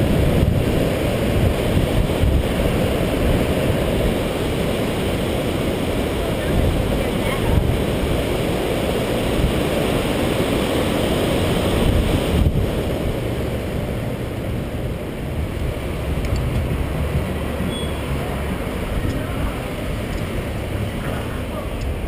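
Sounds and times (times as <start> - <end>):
street traffic: 0.0 - 22.0
wind and road noise: 0.0 - 22.0.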